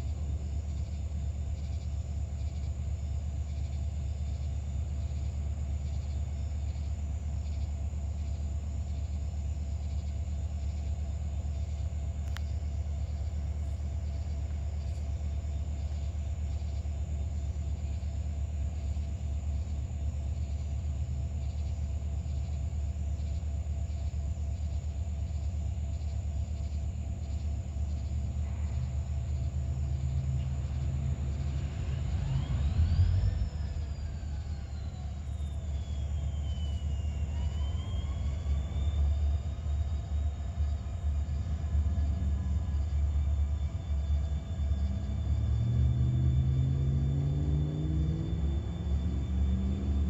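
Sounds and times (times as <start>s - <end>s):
diesel locomotives idling: 0.0s - 50.0s.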